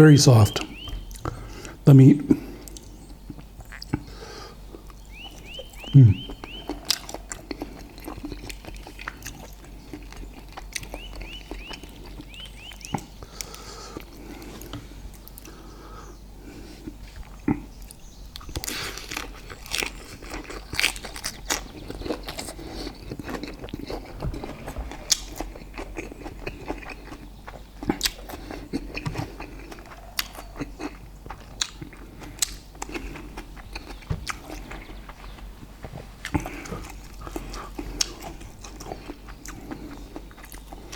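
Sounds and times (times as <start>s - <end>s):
wet chewing and lip smacks: 0.5s - 1.8s, 2.6s - 4.1s, 4.7s - 15.6s, 16.8s - 35.5s, 36.2s - 40.9s.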